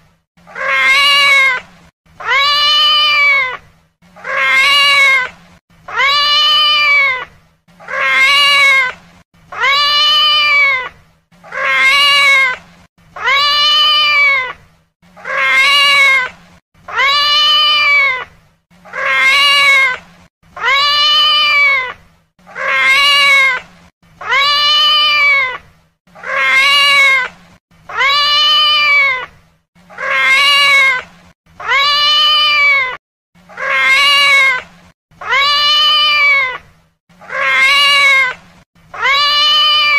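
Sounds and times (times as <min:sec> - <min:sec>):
cat meowing: 0:00.5 - 0:01.6, 0:02.2 - 0:03.6, 0:04.2 - 0:05.3, 0:05.9 - 0:12.6, 0:13.2 - 0:14.6, 0:15.2 - 0:16.3, 0:16.9 - 0:20.0, 0:20.6 - 0:23.6, 0:24.2 - 0:27.3, 0:27.9 - 0:39.9.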